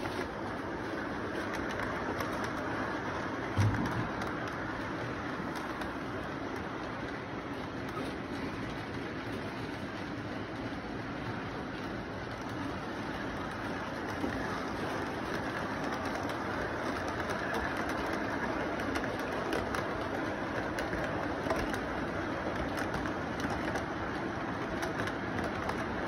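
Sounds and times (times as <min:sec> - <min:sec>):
model train wheels rumbling: 0:00.0 - 0:26.0.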